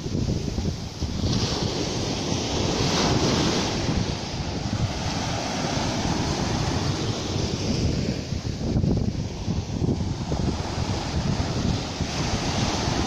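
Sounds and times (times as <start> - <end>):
small waves breaking on sand: 0.0 - 13.0.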